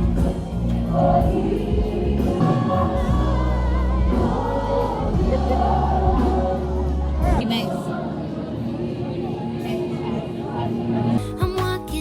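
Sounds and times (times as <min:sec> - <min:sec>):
voices singing over bass: 0:00.0 - 0:12.0.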